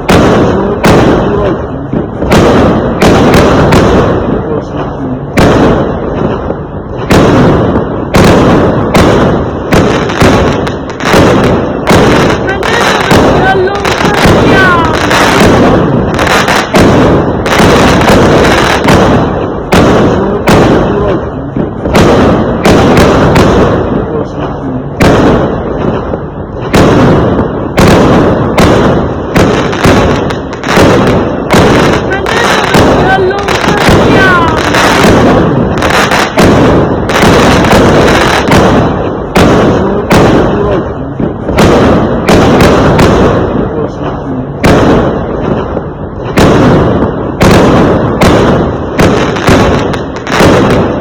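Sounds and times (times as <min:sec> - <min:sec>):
fireworks bangs with low rumble: 0:00.0 - 0:51.0.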